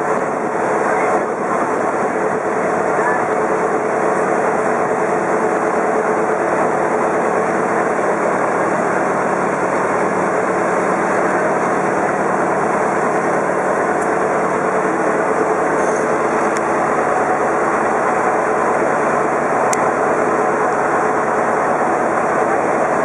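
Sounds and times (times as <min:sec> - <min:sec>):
boat motor droning: 0:00.0 - 0:23.0.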